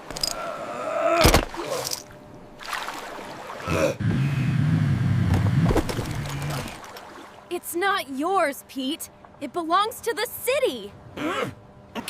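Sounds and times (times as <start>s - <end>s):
low wavering engine hum: 0.0s - 12.0s.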